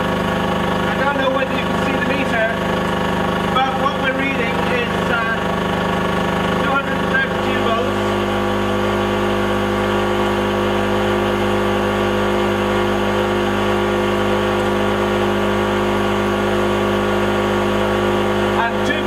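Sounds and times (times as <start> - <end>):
portable generator running: 0.0 - 19.0.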